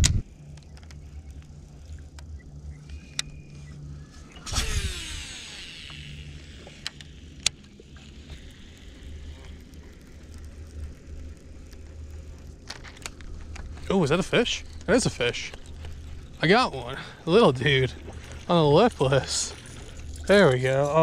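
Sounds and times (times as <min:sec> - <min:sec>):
low rumble: 0:00.0 - 0:21.0
fishing reel spool whirring: 0:00.2 - 0:21.0.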